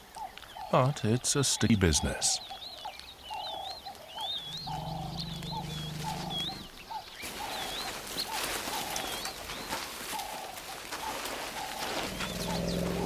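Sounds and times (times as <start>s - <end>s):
lower bird calls: 0.0s - 13.0s.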